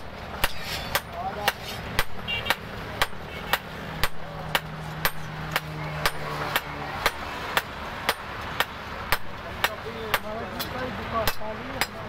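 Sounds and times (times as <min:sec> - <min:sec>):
sledgehammers striking hot steel: 0:00.0 - 0:12.0.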